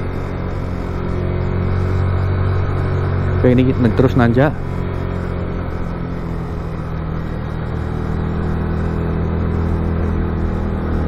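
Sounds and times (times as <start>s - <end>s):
motorcycle engine under load: 0.0s - 11.0s.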